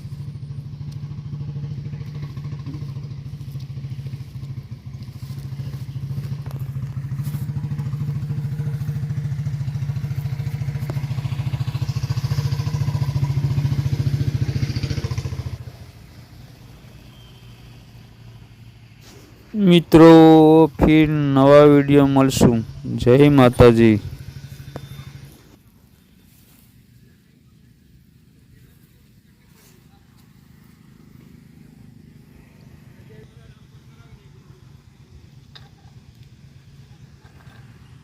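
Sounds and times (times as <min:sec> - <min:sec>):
engine running with pulsing hum: 0:00.0 - 0:20.0, 0:20.6 - 0:38.0.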